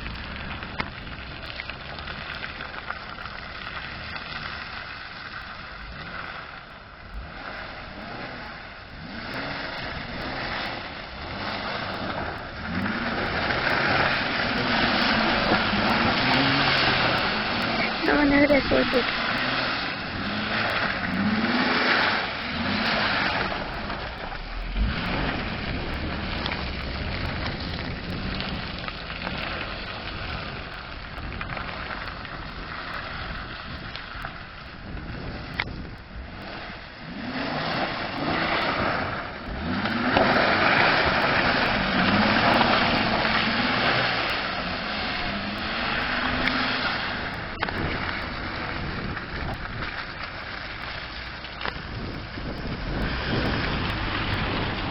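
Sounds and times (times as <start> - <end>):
car engine revving: 0.0 - 54.9
tyre and wind noise: 0.0 - 54.9.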